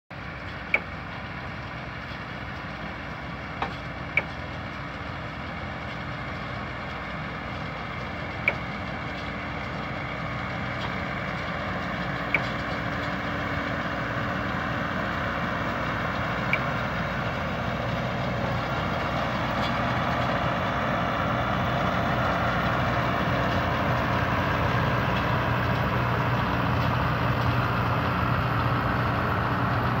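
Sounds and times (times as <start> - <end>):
tractor engine running: 0.1 - 30.0.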